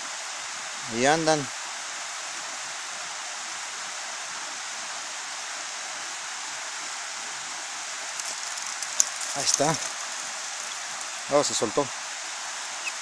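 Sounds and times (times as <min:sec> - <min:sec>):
water rushing down cascade: 0:00.0 - 0:13.0.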